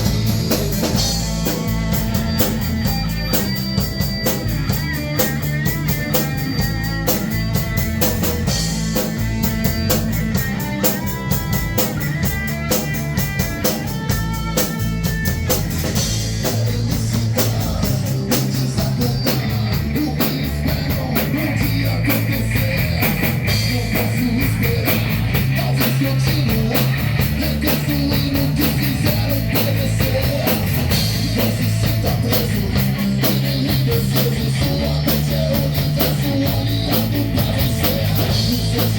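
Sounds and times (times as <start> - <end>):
electric guitar melody: 0.0 - 38.9
hard rock band playing live: 0.0 - 38.9.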